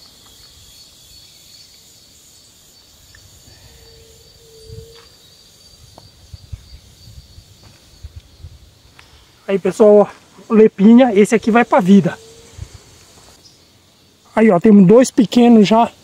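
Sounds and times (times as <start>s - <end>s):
high-pitched insect chirring: 0.0s - 16.0s.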